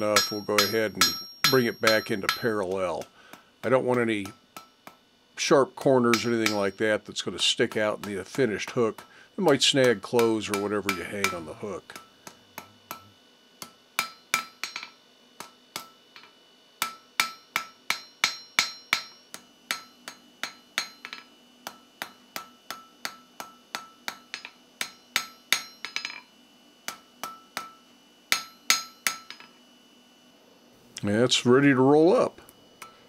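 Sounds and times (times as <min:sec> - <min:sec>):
hammer ringing on anvil: 0:00.0 - 0:05.0, 0:06.0 - 0:29.6.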